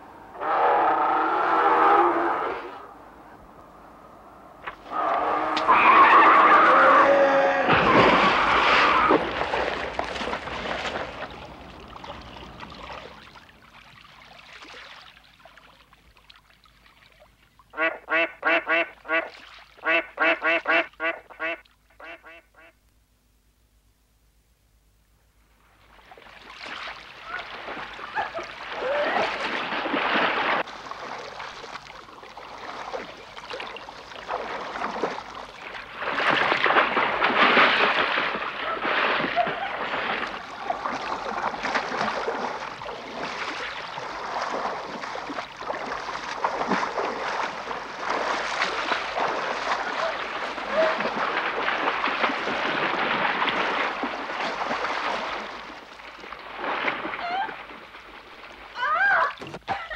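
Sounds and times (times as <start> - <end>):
water sloshing around a boat: 7.7 - 21.9, 25.6 - 59.9.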